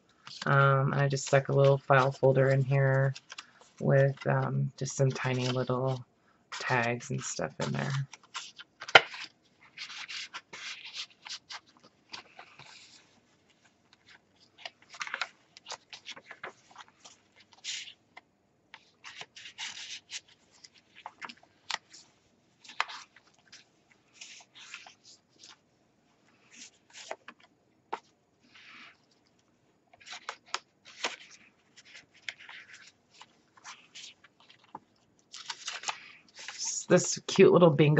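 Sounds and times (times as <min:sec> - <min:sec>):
paper rustling: 0:00.1 - 0:37.8.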